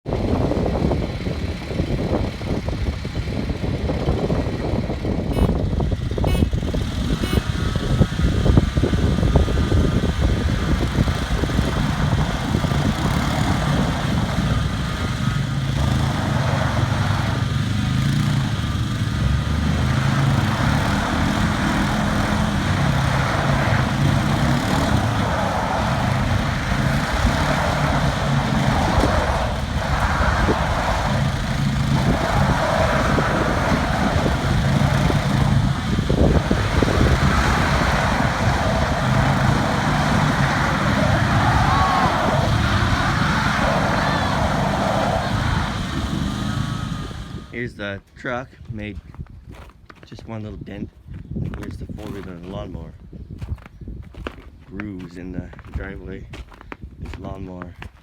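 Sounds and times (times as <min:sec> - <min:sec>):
engines running hard under load: 0:00.0 - 0:47.7
wheels spinning out: 0:00.3 - 0:47.6.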